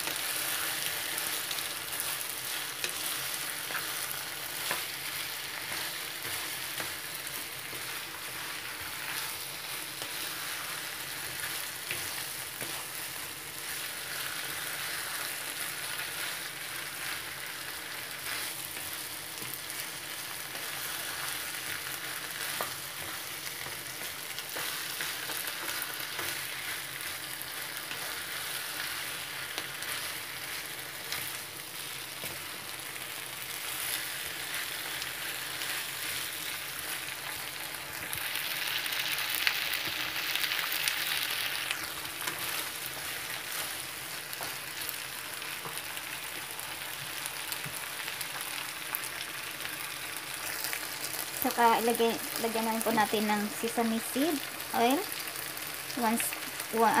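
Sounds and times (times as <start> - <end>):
vegetables sizzling in frying pan: 0.0 - 57.0.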